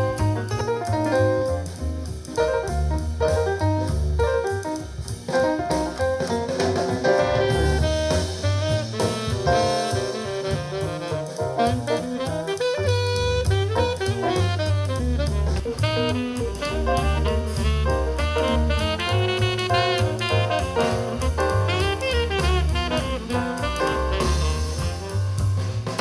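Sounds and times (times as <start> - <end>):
jazz music through speaker: 0.0 - 26.0.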